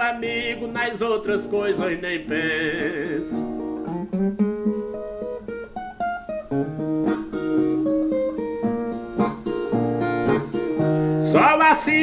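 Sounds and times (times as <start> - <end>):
plucked guitar melody: 0.0 - 12.0
strummed guitar chords: 0.0 - 12.0.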